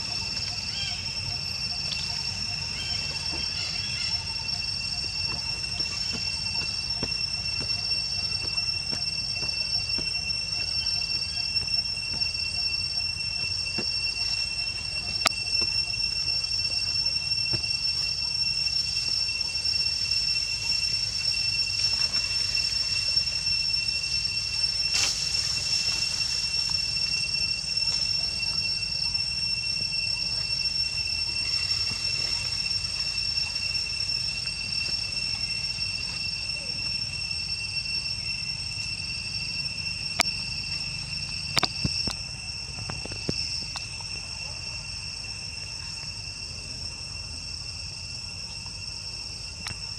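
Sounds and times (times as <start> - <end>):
insect chirping in pulses: 0.0 - 49.9
insect high-pitched trill: 0.0 - 49.9.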